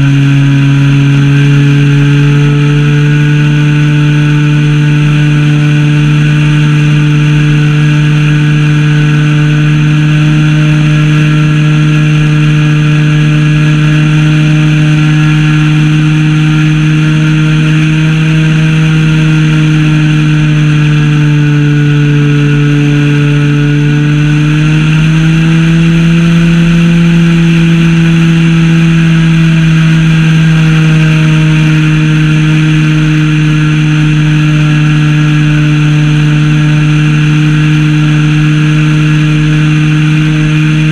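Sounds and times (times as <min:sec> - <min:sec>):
model plane engine running: 0:00.0 - 0:40.9.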